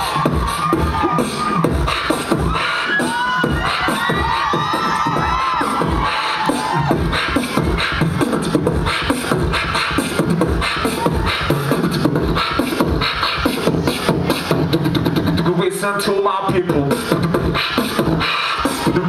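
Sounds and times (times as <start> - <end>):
beatboxing: 0.0 - 19.0.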